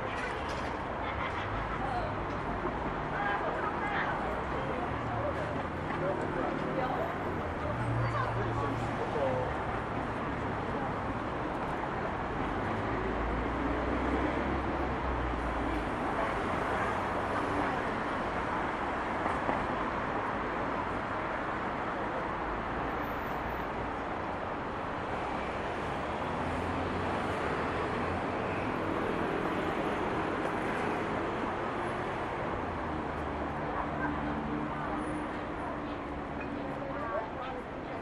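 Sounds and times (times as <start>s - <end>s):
passing vehicles rumbling: 0.0s - 38.0s
traffic noise: 0.0s - 38.0s.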